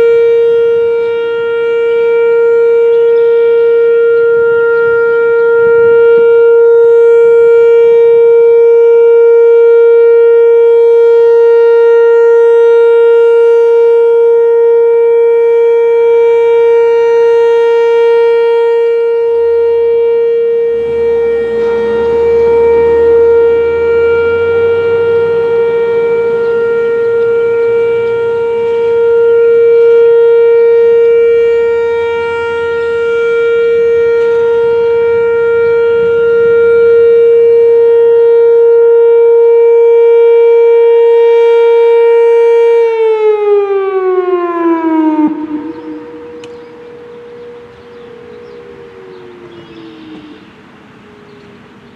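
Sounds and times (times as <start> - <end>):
steady warning siren tone: 0.0 - 51.9.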